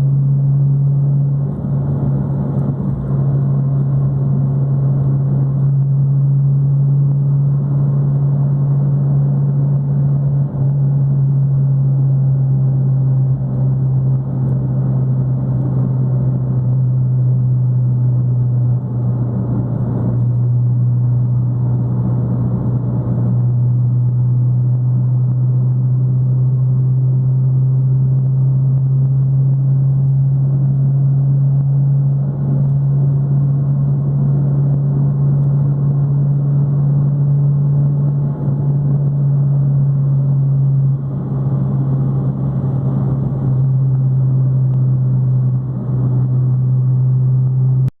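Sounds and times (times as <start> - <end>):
car engine droning: 0.0 - 48.0
road noise: 0.0 - 48.0.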